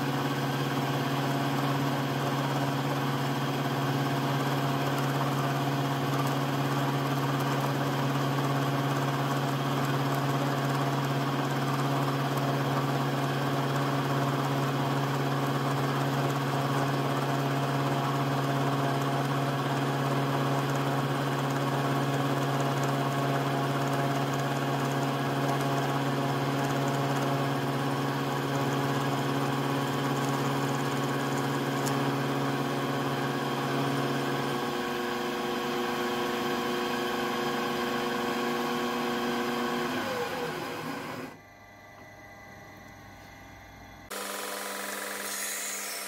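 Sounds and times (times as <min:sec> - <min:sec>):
milling machine humming: 0:00.0 - 0:16.5, 0:17.2 - 0:46.0.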